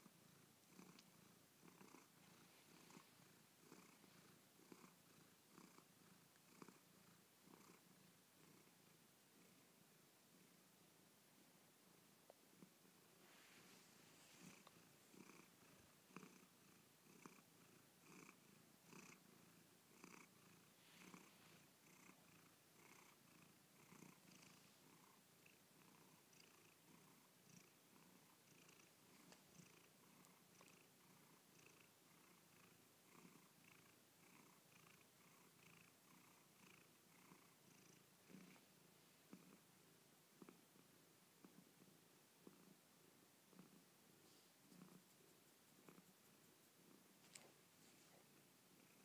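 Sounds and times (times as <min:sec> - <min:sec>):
cat purring softly: 0:00.0 - 0:49.0.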